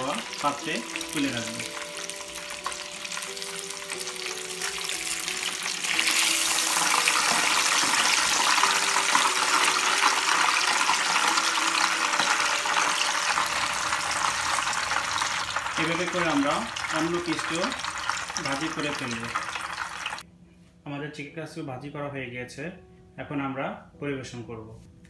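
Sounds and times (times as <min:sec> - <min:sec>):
oil sizzling while deep-frying: 0:00.0 - 0:20.2.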